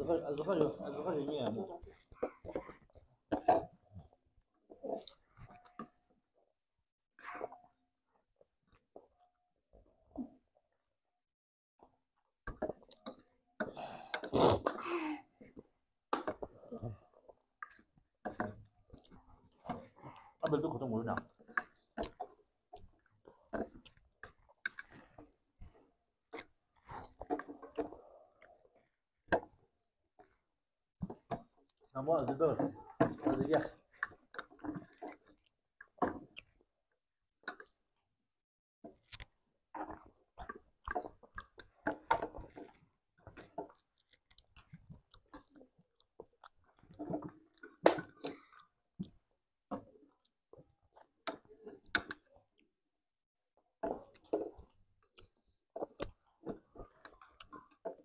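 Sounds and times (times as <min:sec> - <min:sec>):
children chewing noodles: 0:00.0 - 0:06.5, 0:11.8 - 0:38.1, 0:38.9 - 0:52.8, 0:53.7 - 0:58.0.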